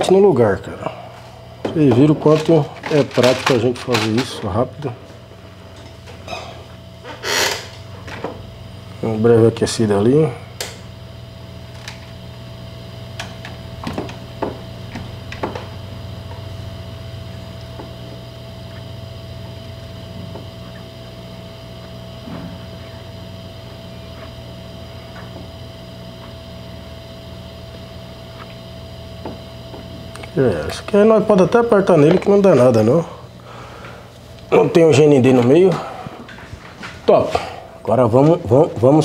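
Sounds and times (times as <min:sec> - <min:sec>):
hot-air station fan humming: 0:00.0 - 0:39.0.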